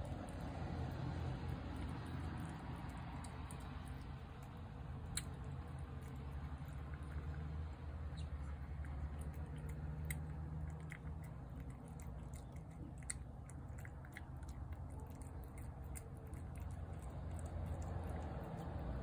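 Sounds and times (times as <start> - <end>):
cat chewing wet food: 0.0 - 19.0.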